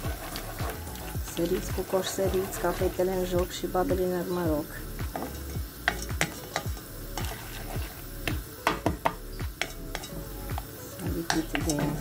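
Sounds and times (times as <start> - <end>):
spoon stirring kernels in a pot: 0.0 - 12.0.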